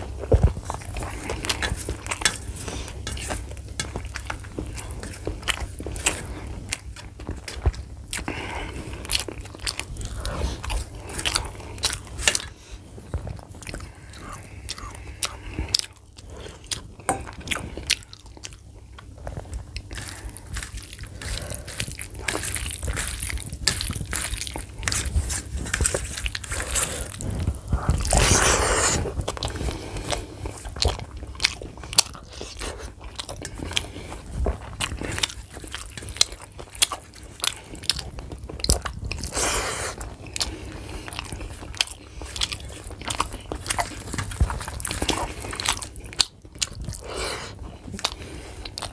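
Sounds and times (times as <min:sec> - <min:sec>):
chewing: 0:00.0 - 0:48.9.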